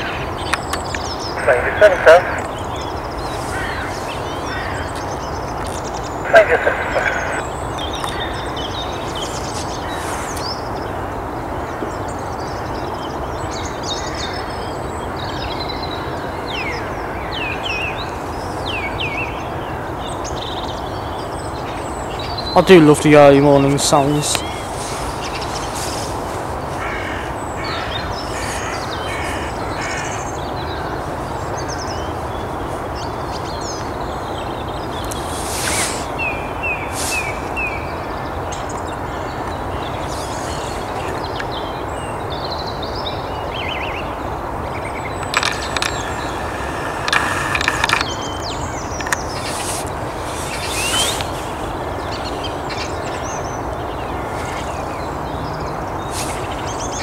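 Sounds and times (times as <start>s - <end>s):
birds calling and chirping: 0.0s - 57.0s
harsh bird calls: 0.0s - 57.0s.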